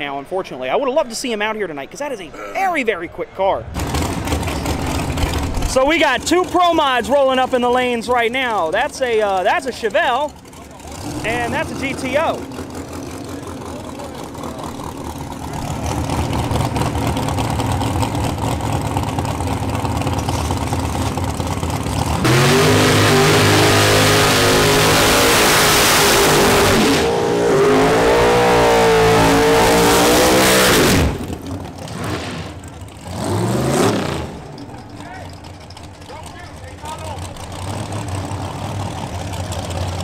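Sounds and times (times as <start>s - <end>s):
drag racing car engines revving: 2.8s - 40.0s.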